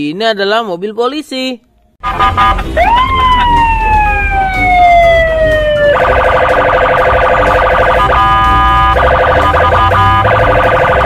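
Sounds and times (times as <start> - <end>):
police siren wailing and yelping: 2.1 - 11.0.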